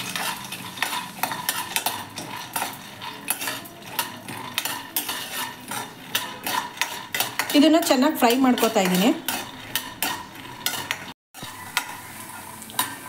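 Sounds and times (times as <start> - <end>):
nuts clattering in a pan: 0.0 - 11.1
spoon scraping a pan: 0.0 - 13.0.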